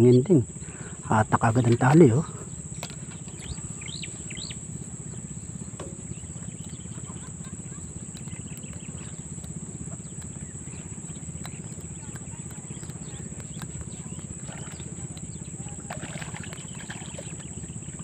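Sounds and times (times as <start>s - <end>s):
high-pitched insect drone: 0.0s - 18.0s
low pulsing motor hum: 0.0s - 18.0s
fish splashing water: 2.7s - 18.0s.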